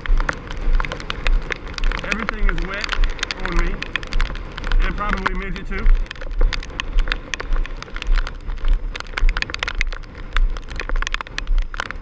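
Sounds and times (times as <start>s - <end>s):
heavy rain hitting microphone: 0.0s - 12.0s
low uneven rumble: 0.0s - 12.0s.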